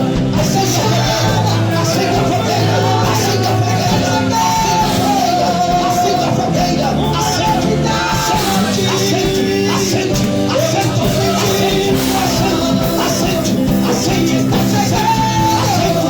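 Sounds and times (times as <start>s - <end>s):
band playing worship music: 0.0s - 16.0s
person singing: 0.0s - 16.0s.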